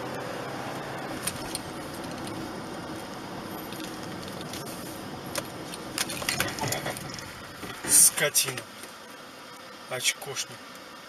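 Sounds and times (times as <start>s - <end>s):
road and engine noise inside car: 0.0s - 11.0s.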